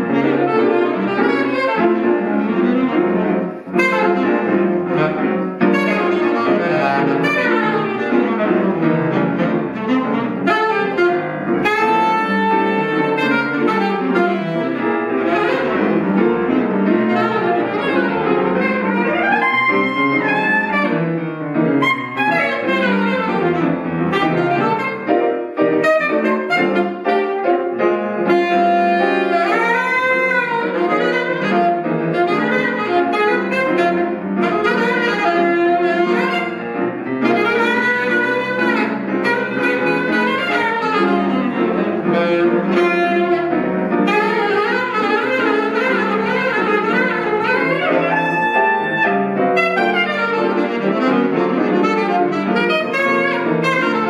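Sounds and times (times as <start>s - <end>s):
jazz saxophone: 0.0s - 54.0s
piano chords: 0.0s - 54.0s.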